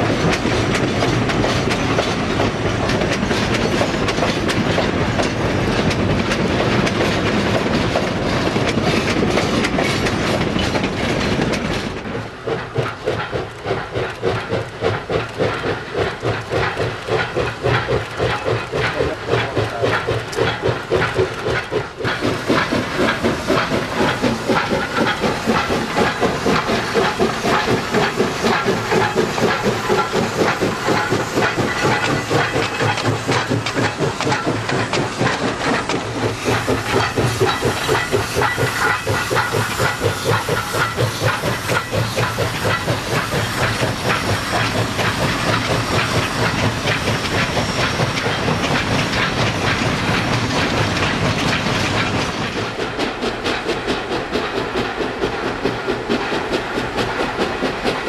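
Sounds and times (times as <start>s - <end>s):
steam locomotive exhaust beating: 0.0s - 58.0s
train wheels clicking over rail joints: 0.0s - 58.0s.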